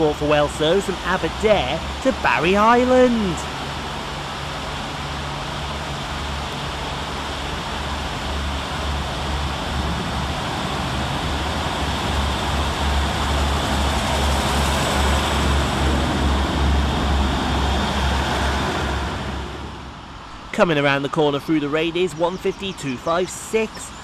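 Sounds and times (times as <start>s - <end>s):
diesel train accelerating past: 0.0s - 22.3s.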